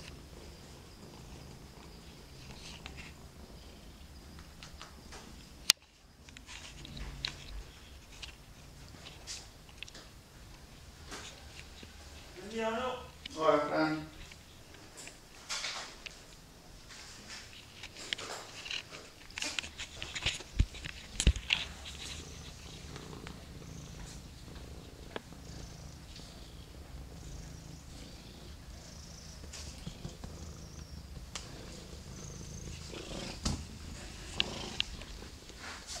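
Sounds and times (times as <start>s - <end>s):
cat purring: 0.0s - 13.3s, 16.5s - 36.0s.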